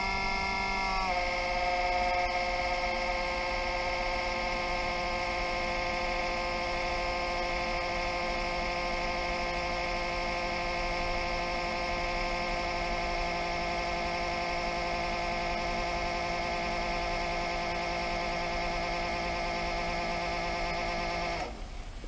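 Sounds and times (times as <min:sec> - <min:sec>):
cooling fan whining hum: 0:00.0 - 0:22.0.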